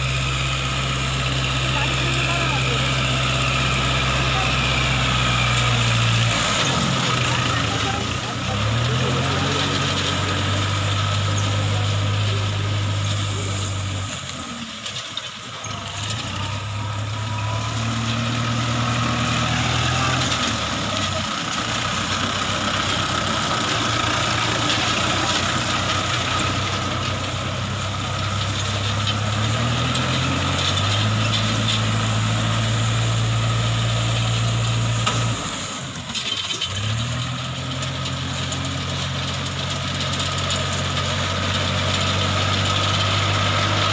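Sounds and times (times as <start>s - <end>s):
baler engine revving: 0.0s - 43.9s
machine working noise: 0.0s - 43.9s.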